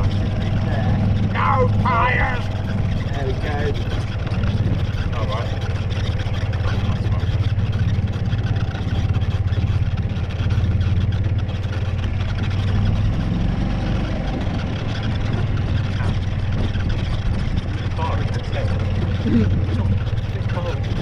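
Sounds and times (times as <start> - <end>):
vehicle engine humming at low speed: 0.0 - 21.0.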